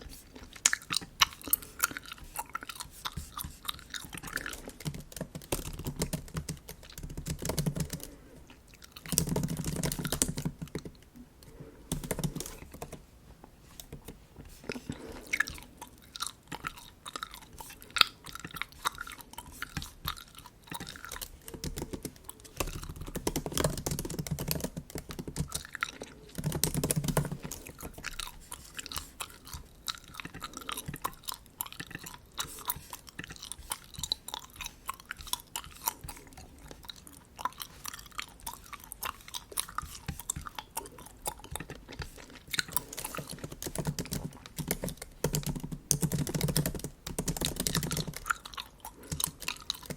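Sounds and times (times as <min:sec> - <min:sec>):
gum chewing and smacking: 0:00.0 - 0:49.9.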